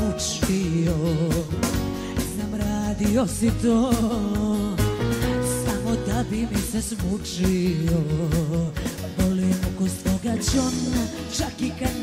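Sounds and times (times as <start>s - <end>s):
person singing ornamented melody: 2.4s - 12.0s.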